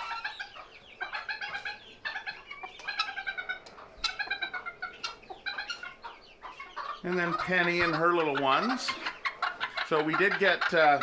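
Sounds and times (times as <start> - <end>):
hen and chicks calling: 0.0 - 11.0.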